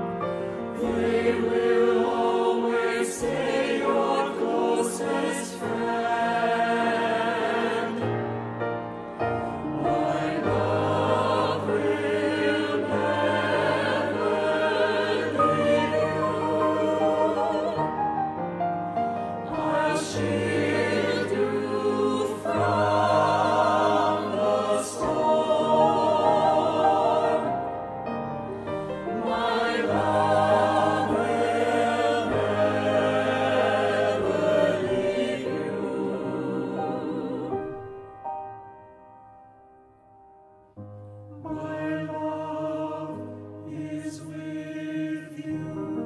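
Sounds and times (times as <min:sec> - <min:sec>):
mixed choir singing: 0:00.0 - 0:38.0, 0:41.4 - 0:46.0.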